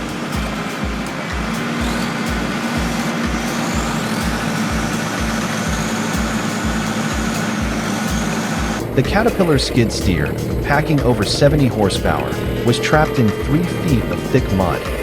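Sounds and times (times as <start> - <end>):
background music with low beat: 0.0 - 15.0
heavy machine engine running: 0.0 - 15.0.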